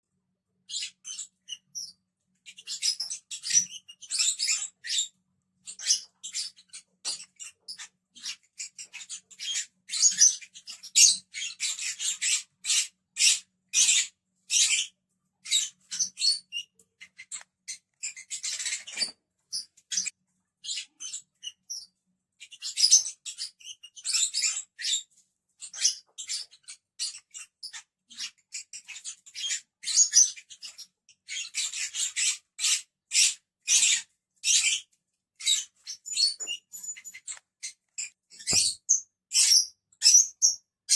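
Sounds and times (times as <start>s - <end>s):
birds chirping: 0.6s - 40.9s.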